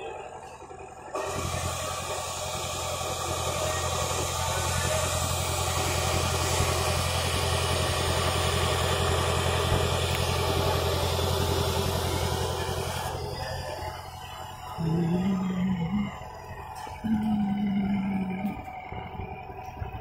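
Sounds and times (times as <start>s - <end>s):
engine idling: 0.0s - 20.0s
engine hiss: 0.1s - 20.0s.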